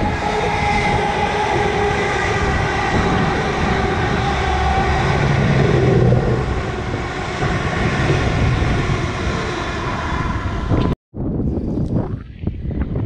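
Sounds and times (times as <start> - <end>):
passenger train rumbling past: 0.0 - 11.0.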